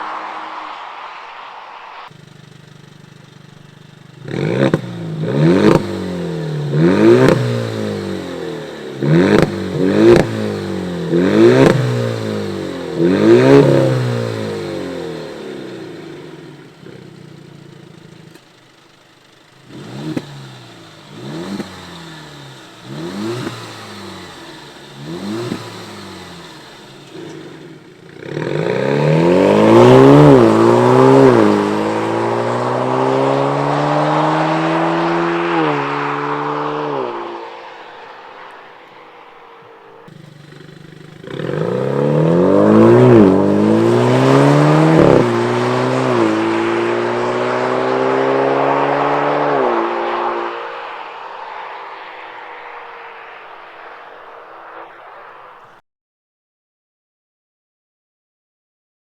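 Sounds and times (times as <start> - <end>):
car engine revving: 0.0 - 55.8.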